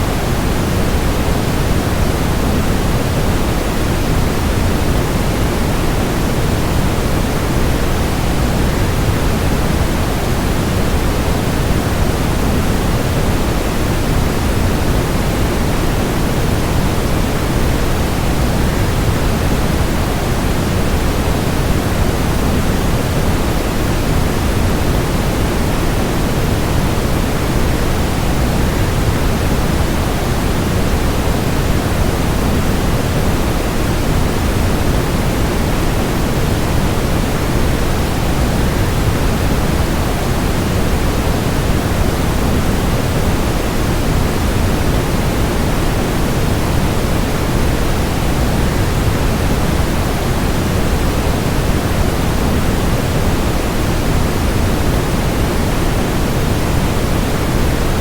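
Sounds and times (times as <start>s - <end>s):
waterfall: 0.0s - 58.0s.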